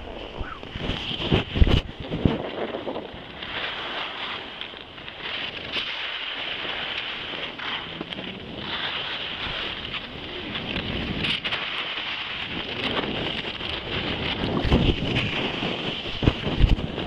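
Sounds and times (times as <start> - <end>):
skis sliding over packed snow: 0.0 - 17.0
wind on microphone: 0.0 - 17.0.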